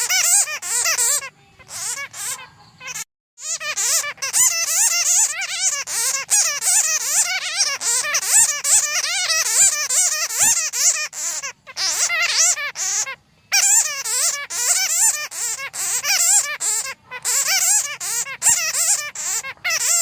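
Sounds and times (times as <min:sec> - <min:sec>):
bats chattering: 0:00.0 - 0:20.0.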